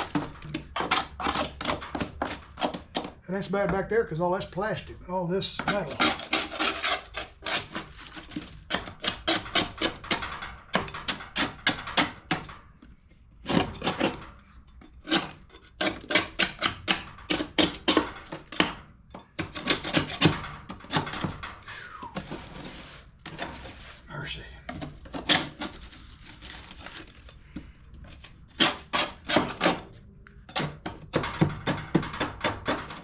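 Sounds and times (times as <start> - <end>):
putty knife scraping metal deck: 0.0 - 3.2, 5.6 - 24.0, 24.7 - 33.0.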